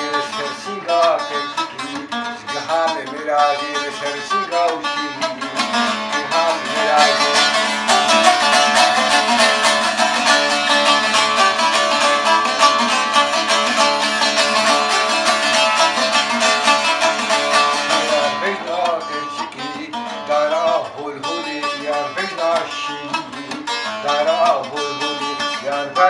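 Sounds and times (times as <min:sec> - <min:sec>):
man singing: 0:00.0 - 0:12.3, 0:14.2 - 0:26.0
lute strumming: 0:00.0 - 0:26.0.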